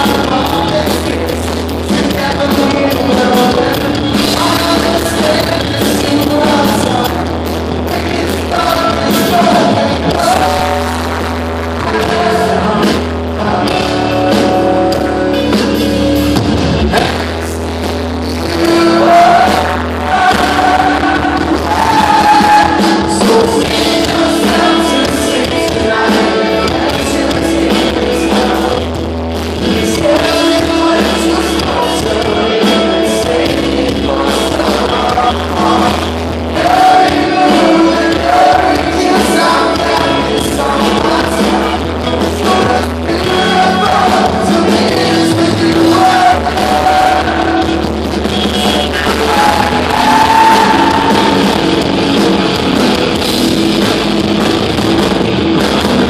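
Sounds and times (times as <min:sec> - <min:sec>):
person singing: 0:00.0 - 0:16.2, 0:16.9 - 0:53.0
live rock band playing: 0:00.0 - 0:56.0.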